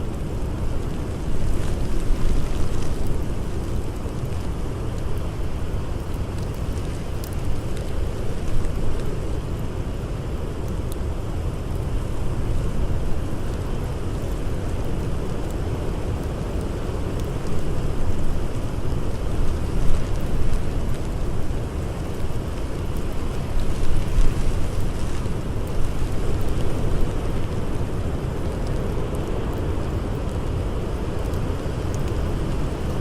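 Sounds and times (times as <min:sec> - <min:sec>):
blizzard wind rumbling: 0:00.0 - 0:33.0
faint campfire crackles: 0:00.0 - 0:33.0.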